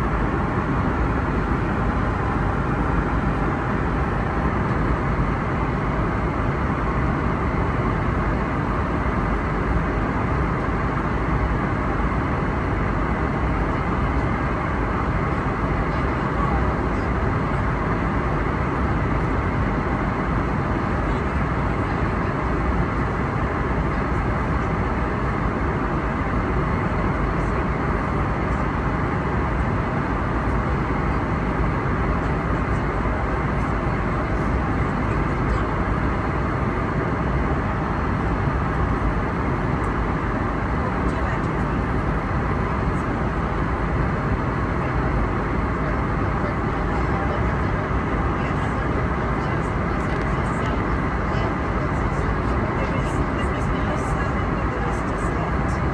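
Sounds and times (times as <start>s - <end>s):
airliner cabin noise: 0.0s - 55.9s.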